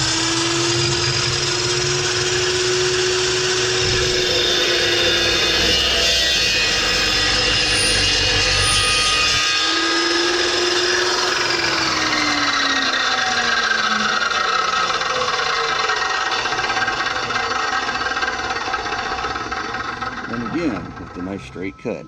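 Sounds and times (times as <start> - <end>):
chop saw cutting steel: 0.0 - 21.8.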